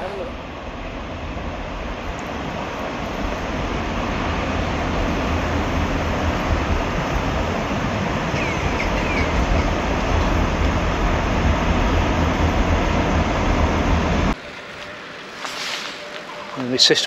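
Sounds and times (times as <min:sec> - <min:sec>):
steady rumbling: 0:00.0 - 0:17.0.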